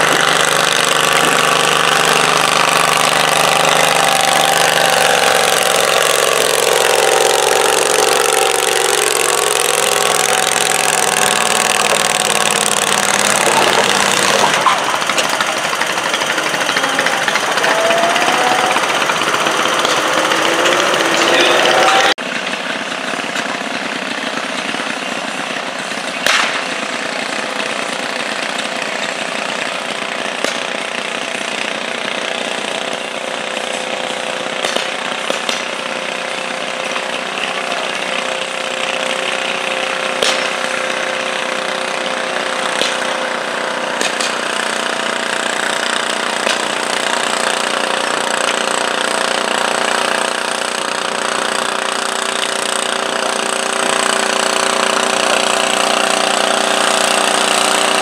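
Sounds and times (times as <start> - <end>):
tractor engine at full throttle: 0.0 - 58.0.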